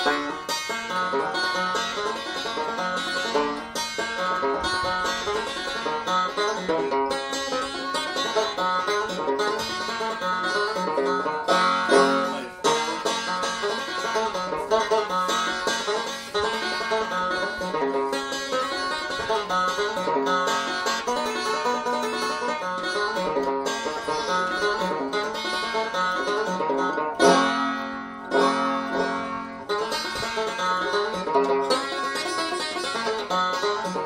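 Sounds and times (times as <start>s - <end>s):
banjo picking: 0.0s - 34.0s
loud banjo chords: 0.0s - 34.0s.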